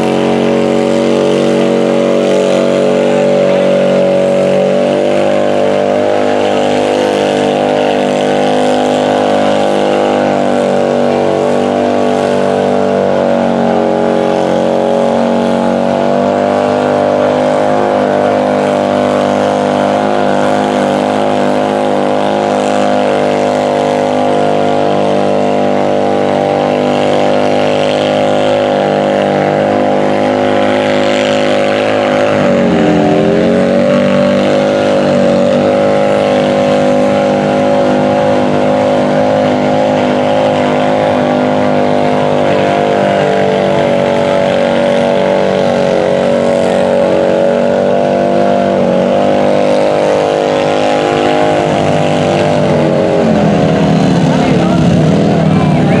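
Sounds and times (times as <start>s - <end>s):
engine running hard: 0.0s - 56.0s
tires churning through mud: 0.0s - 56.0s.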